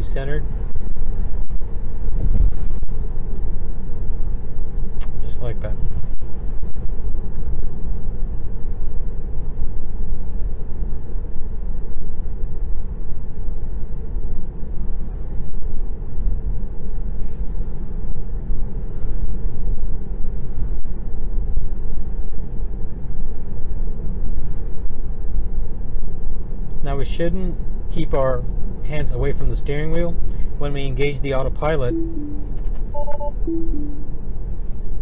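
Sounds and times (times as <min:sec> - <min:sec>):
tyre and road rumble in car: 0:00.0 - 0:31.6.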